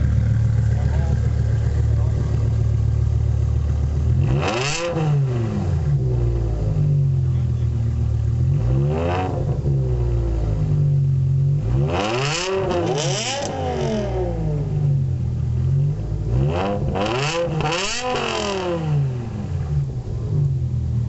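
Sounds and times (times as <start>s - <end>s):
car engine revving in blips: 0.0s - 7.3s, 7.9s - 21.0s
car engine idling: 0.0s - 11.8s, 12.6s - 21.0s.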